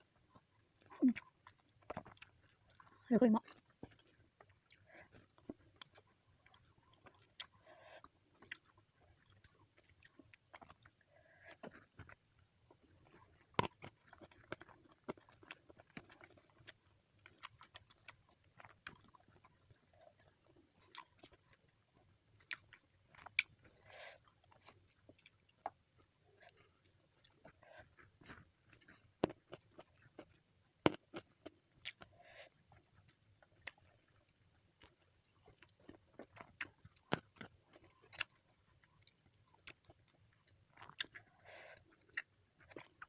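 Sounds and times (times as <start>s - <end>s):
person chewing crunchy food: 0.3s - 43.0s.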